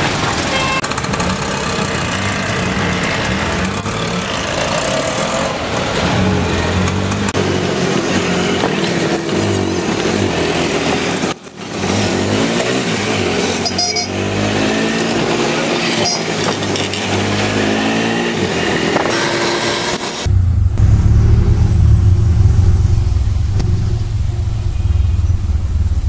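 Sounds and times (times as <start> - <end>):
auto-rickshaw engine running: 0.0 - 26.0.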